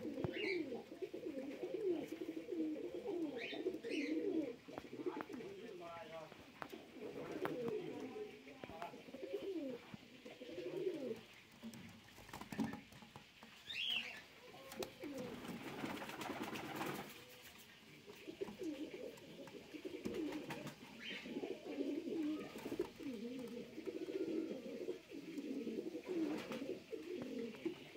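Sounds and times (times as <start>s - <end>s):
pigeons cooing: 0.0s - 11.9s, 13.6s - 27.9s.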